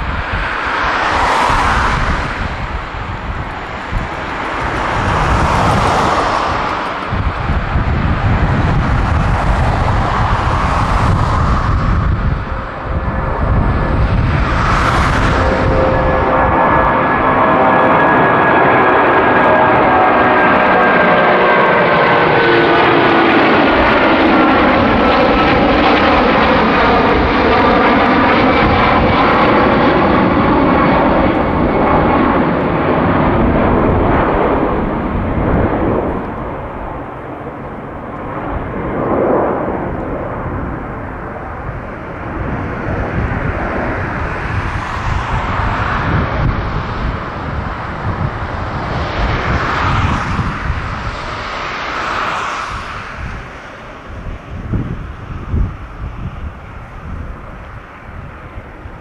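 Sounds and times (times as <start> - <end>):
jet airliner roaring overhead: 0.0 - 59.0.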